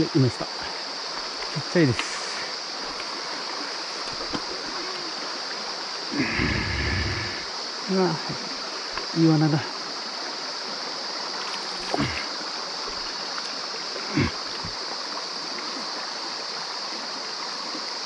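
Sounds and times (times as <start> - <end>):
mountain stream flowing: 0.0 - 18.0.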